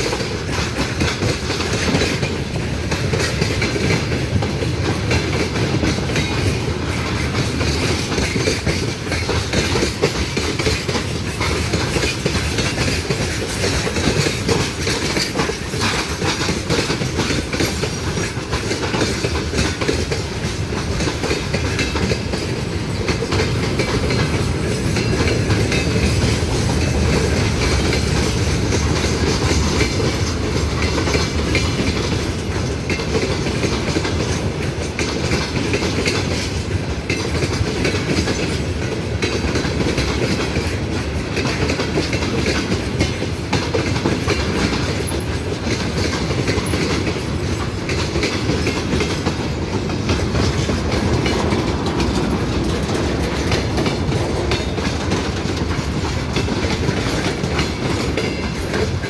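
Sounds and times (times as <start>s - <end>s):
train wheels clattering: 0.0s - 59.0s.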